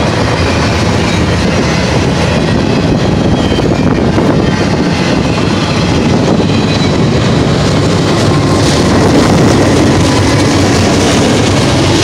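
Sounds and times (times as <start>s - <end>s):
diesel locomotive passing: 0.0s - 12.0s
freight train wheels rumbling: 0.0s - 12.0s.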